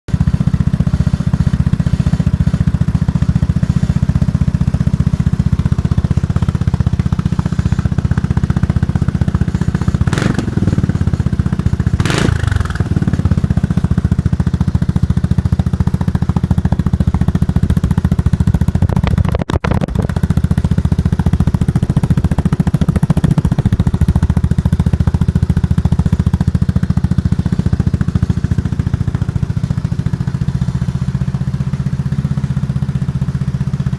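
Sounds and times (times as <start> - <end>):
scooter engine idling: 0.1 - 33.9.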